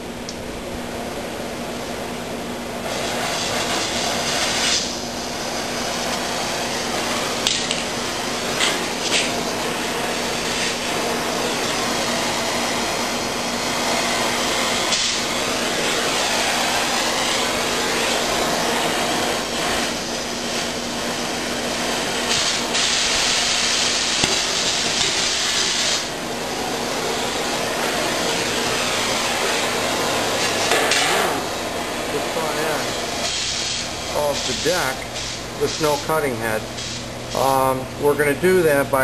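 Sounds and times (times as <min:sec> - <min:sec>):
cutting torch hissing: 0:01.8 - 0:38.6.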